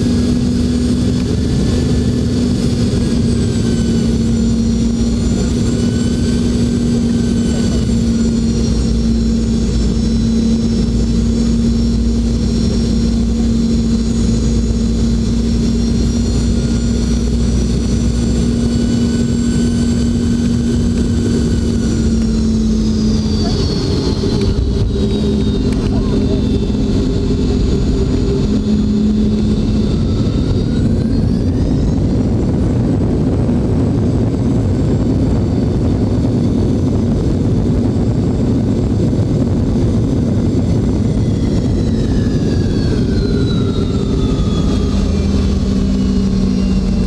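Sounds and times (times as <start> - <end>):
high fan whine: 0.0 - 47.0
jet engine cabin drone: 0.0 - 47.0.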